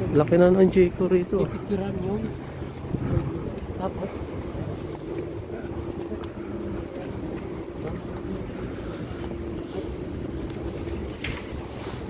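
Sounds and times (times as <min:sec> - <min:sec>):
wind rumbling on microphone: 0:02.2 - 0:12.0.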